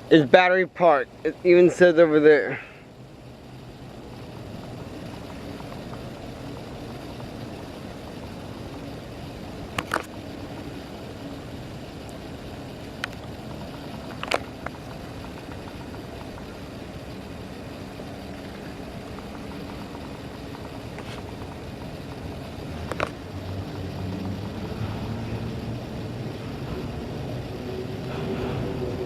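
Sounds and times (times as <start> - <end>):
distant vehicle noise: 0.0 - 29.0
low engine hum: 0.0 - 29.0.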